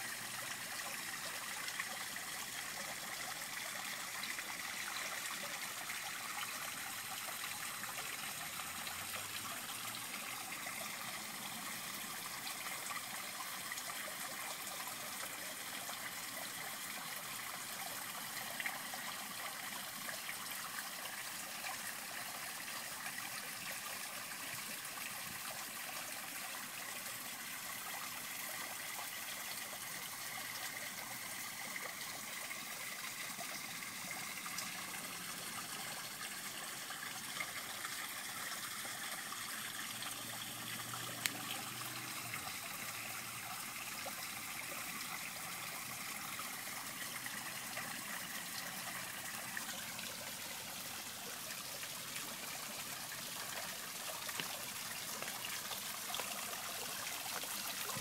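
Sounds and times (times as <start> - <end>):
small waterfall trickling into pond: 0.0 - 58.0.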